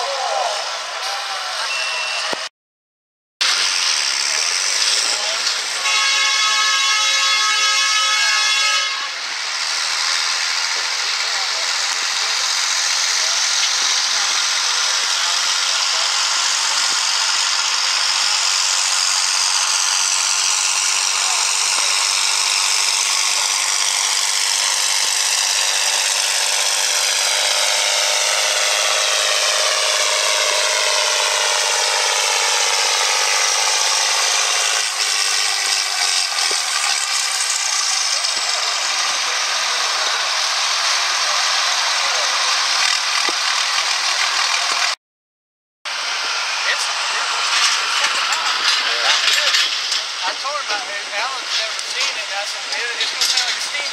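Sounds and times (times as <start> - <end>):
tractor diesel engine running hard: 0.0 - 2.5, 3.4 - 45.0, 45.9 - 53.9.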